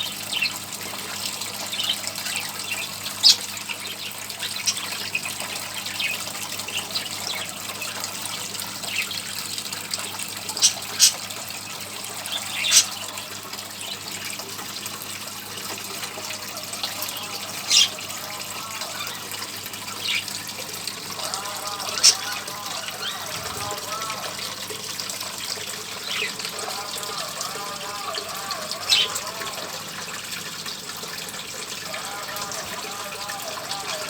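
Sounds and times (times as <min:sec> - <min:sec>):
water trickling from fountain: 0:00.0 - 0:34.0.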